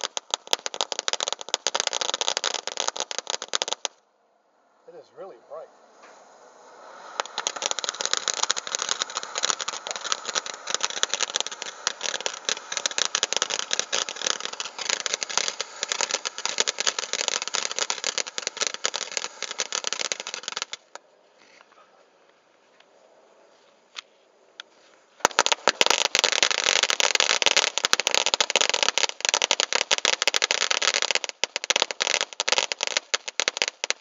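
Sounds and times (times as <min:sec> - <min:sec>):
firework fountain crackling hiss: 0:00.0 - 0:04.0, 0:04.6 - 0:21.1, 0:24.6 - 0:34.0.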